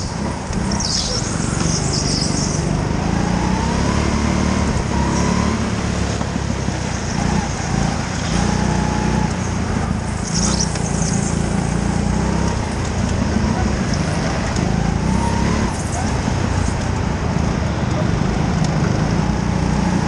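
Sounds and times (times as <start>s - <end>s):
go-kart engine racing: 0.0s - 20.0s.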